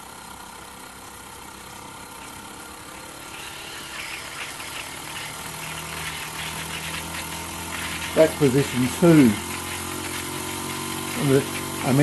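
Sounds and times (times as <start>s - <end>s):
model steam engine running: 0.0s - 12.0s.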